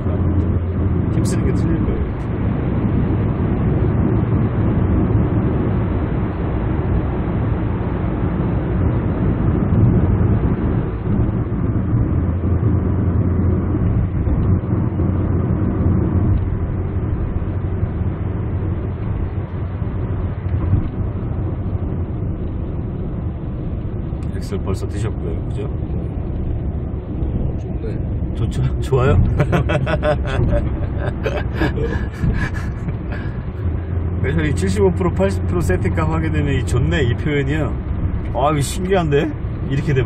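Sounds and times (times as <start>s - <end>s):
car engine and tyre noise: 0.0s - 40.0s.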